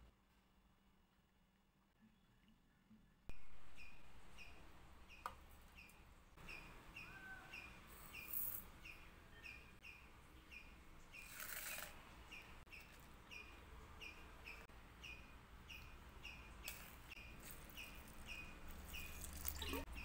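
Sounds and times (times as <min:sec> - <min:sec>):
small bird chirping: 0:02.1 - 0:20.0.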